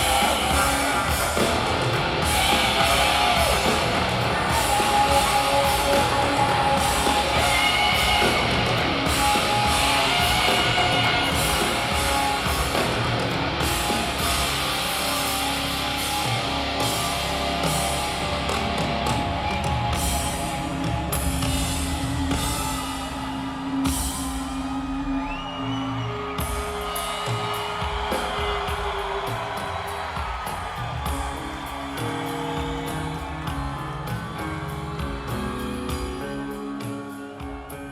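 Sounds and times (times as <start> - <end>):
drums: 0.0 - 37.9
electric guitar: 0.0 - 37.9.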